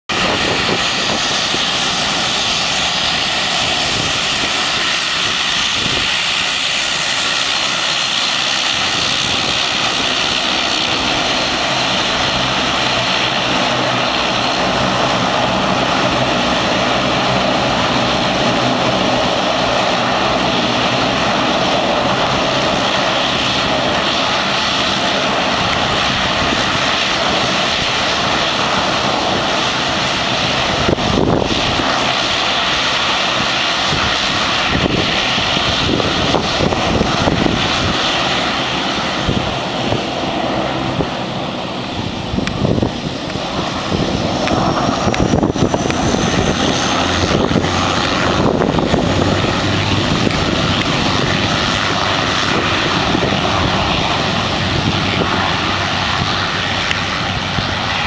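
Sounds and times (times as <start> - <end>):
propeller rush: 0.0 - 58.0
turboprop engine hum and whine: 0.0 - 58.0.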